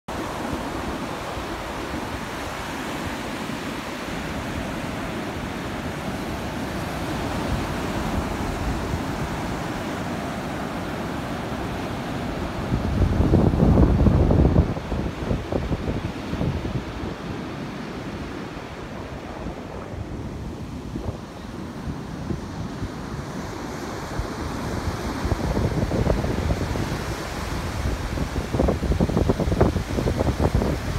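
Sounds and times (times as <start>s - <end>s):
surf washing up a beach: 0.1s - 30.9s
wind rumbling on microphone: 0.1s - 30.9s.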